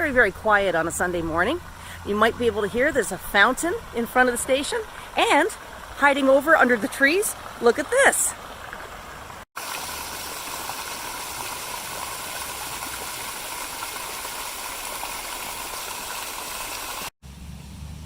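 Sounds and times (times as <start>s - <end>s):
water fountain splashing: 0.0s - 17.1s.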